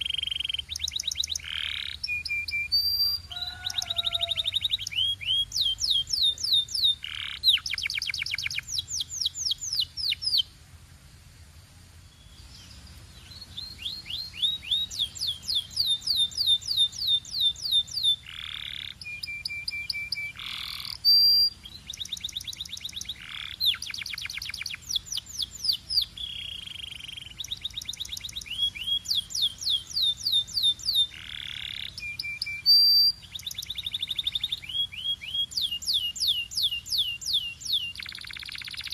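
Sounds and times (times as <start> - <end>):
canary singing trills: 0.0 - 10.5, 12.1 - 38.9.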